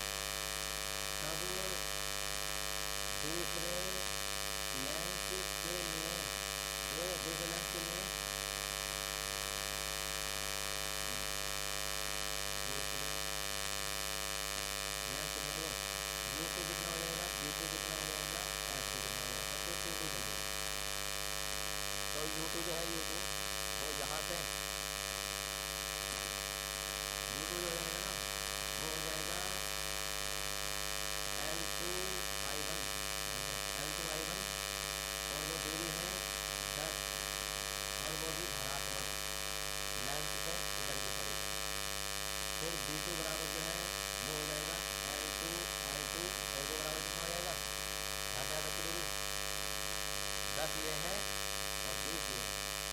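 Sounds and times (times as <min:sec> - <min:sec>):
electrical hum and buzz: 0:00.0 - 0:52.9.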